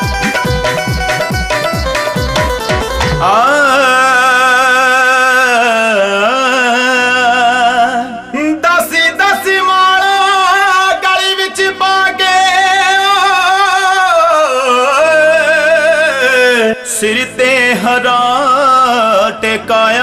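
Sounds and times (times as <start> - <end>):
harmonium: 0.0 - 20.0.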